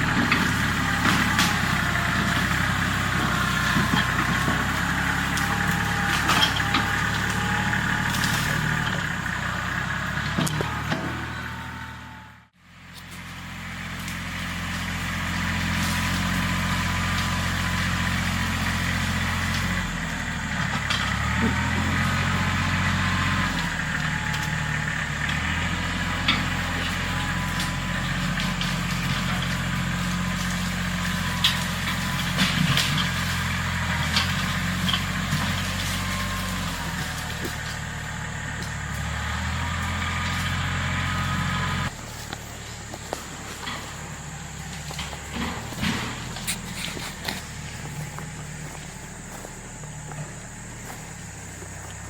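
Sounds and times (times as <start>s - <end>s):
engine running: 0.0s - 52.0s.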